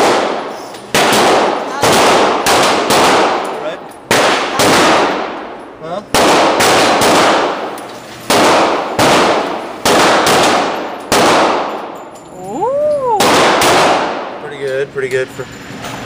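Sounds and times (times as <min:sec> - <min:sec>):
gunshots with long echo: 0:00.0 - 0:12.0, 0:13.2 - 0:14.4.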